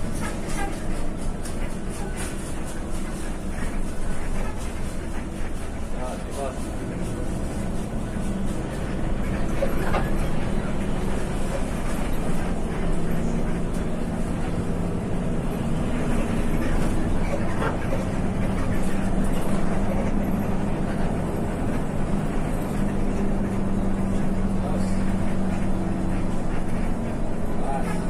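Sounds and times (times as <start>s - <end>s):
bus engine hum: 0.0s - 28.0s
road and tyre noise: 0.0s - 28.0s.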